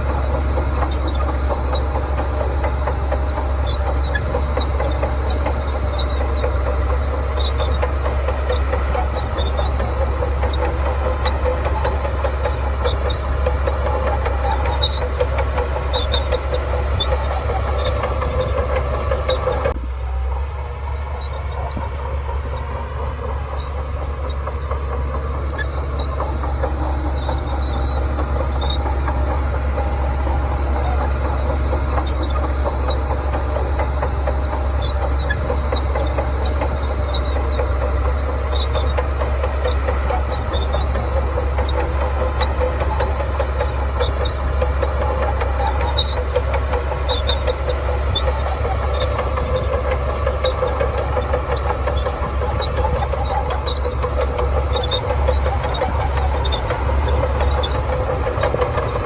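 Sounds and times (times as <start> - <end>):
heavy diesel machinery engine: 0.0 - 59.0.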